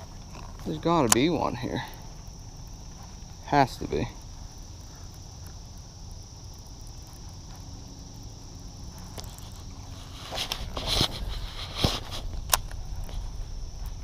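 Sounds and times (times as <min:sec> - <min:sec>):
insects chorus: 0:00.0 - 0:14.0
low outdoor rumble: 0:00.0 - 0:14.0.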